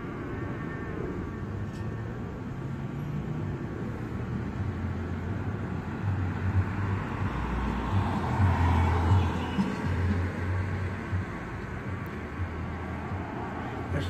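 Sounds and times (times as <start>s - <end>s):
car passing by: 0.0s - 14.0s.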